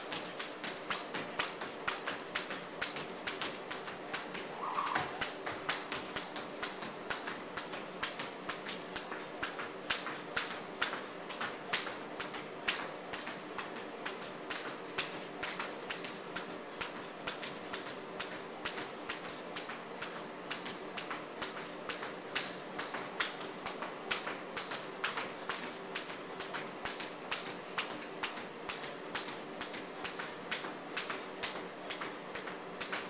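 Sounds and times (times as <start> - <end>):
skipping rope slapping wooden floor: 0.0 - 33.0.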